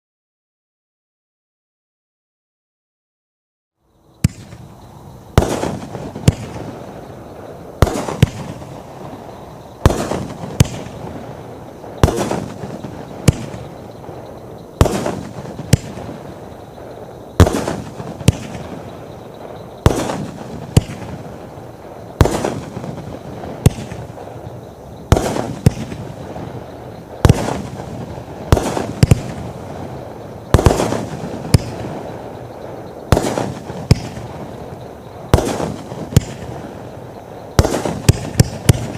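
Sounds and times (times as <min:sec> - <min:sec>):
steady noise: 0:03.8 - 0:38.9.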